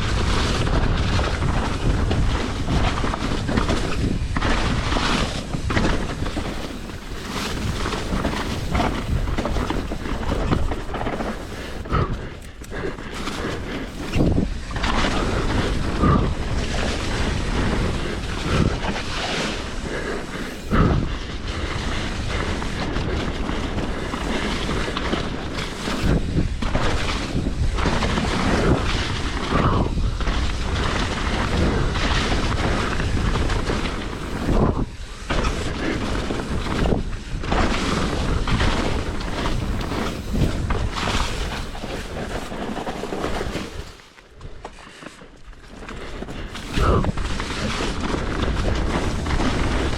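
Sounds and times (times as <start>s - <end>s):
tyres rolling over dirt: 0.0s - 49.9s
wind rushing over microphone: 0.0s - 49.9s.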